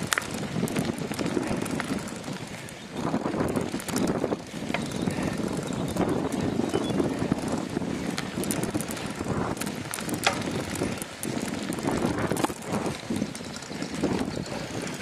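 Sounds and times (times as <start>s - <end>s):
bicycle clicks and knocks: 0.0s - 15.0s
bicycle tyres rumbling on dirt: 0.0s - 15.0s.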